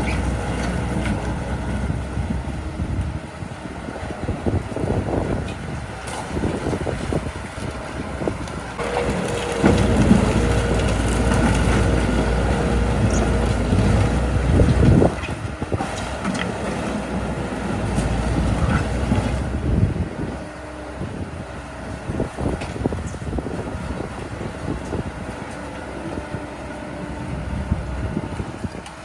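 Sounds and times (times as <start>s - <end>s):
bulldozer diesel engine running: 0.0s - 29.0s
engine whine: 0.0s - 29.0s.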